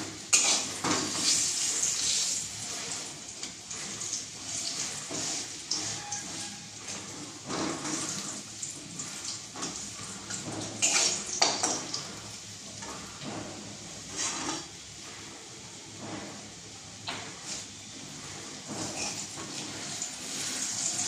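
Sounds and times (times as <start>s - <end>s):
wooden spatula scraping a wok: 0.0s - 21.0s.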